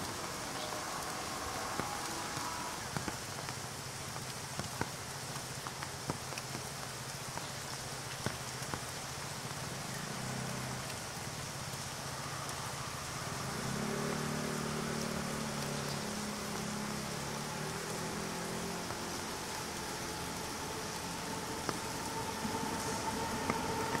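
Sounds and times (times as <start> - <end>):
heavy rain on umbrella: 0.0 - 24.0.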